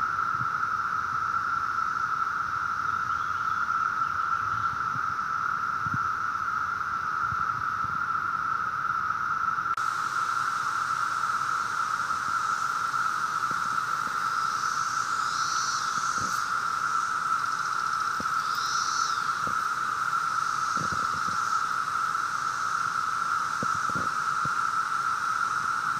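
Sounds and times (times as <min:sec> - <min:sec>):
cicadas droning: 0:00.0 - 0:25.9.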